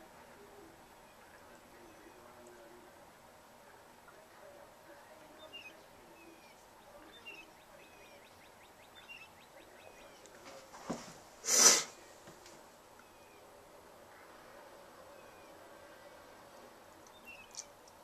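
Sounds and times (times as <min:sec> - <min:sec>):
small birds chirping: 0:00.0 - 0:10.7, 0:11.9 - 0:18.0
rush of noise near microphone: 0:00.0 - 0:18.0.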